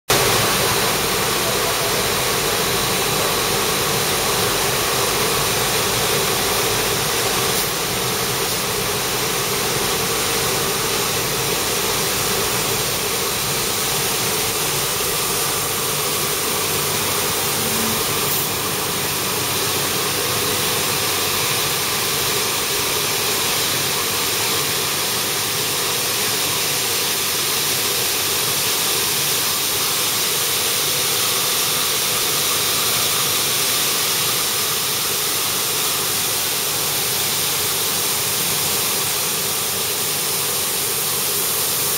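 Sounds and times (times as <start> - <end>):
extruder machine running: 0.1 - 41.9.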